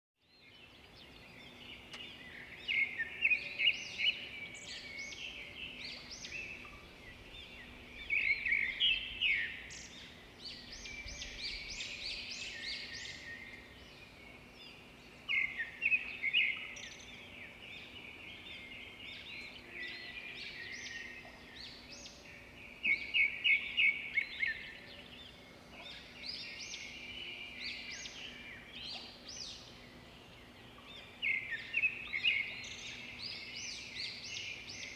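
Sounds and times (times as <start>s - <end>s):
small birds chirping: 0.2s - 34.9s
faint steady hum: 0.5s - 34.9s.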